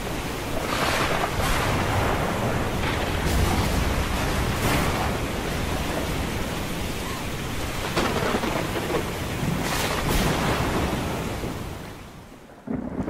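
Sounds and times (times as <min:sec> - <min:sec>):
heavy rain: 0:00.0 - 0:13.0
low rumbling thunder: 0:00.0 - 0:13.0.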